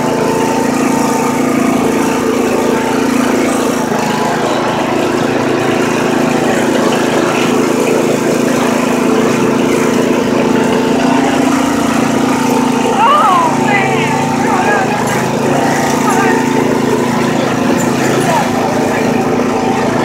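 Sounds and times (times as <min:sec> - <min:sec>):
riding lawn mower engine: 0:00.0 - 0:20.0.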